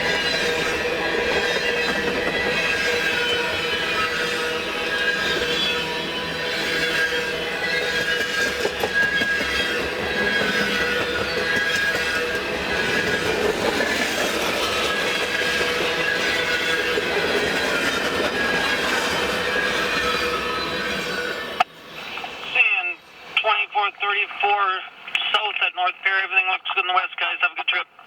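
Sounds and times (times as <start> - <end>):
high wheel squeal: 0.0 - 23.4.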